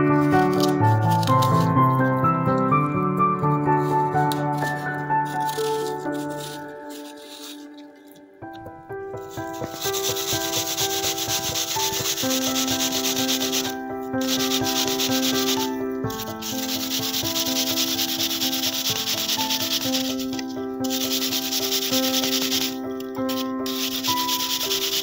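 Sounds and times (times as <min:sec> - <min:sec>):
instrumental background music: 0:00.0 - 0:25.0
apple grated on metal grater: 0:00.1 - 0:02.2, 0:03.6 - 0:08.0, 0:09.2 - 0:25.0.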